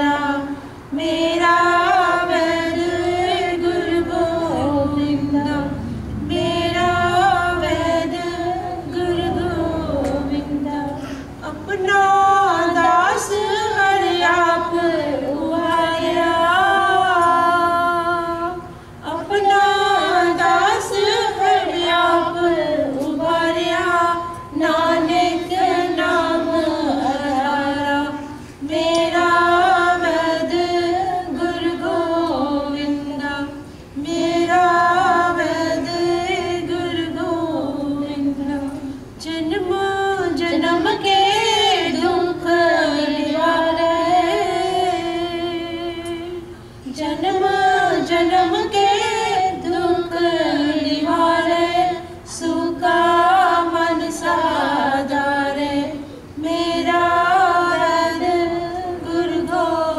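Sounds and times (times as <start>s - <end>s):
women singing together: 0.0s - 59.9s.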